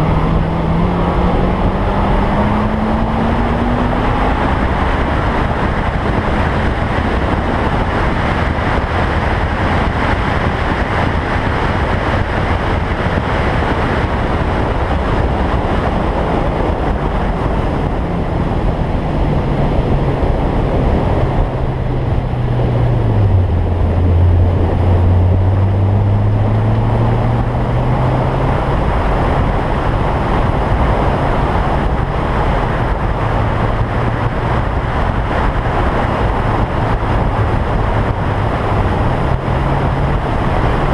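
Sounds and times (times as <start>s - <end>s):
car engine running: 0.0s - 40.9s
heavy wind rush: 0.0s - 40.9s.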